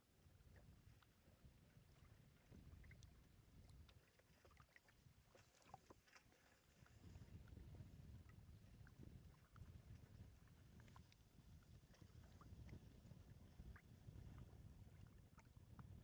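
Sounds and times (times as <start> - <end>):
wind rumble on microphone: 0.2 - 4.0, 6.8 - 16.0.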